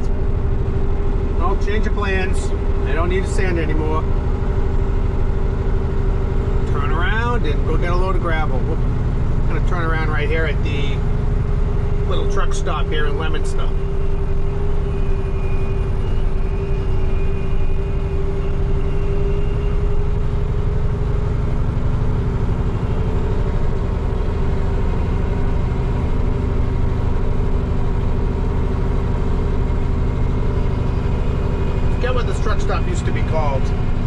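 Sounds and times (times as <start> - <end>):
diesel engine drone: 0.0 - 34.0.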